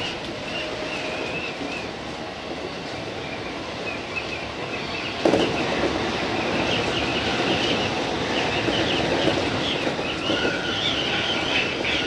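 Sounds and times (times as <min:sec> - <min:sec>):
train rolling rumble: 0:00.0 - 0:12.0
wheels squealing on rails: 0:00.0 - 0:12.0.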